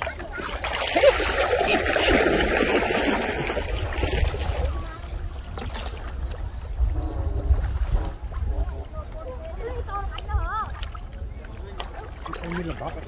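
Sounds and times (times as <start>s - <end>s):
water splashing around a bucket: 0.0s - 6.9s, 7.5s - 13.0s.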